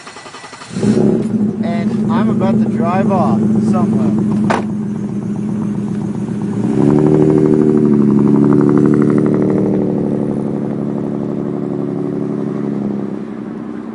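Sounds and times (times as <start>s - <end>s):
car exhaust revving: 0.0s - 13.9s.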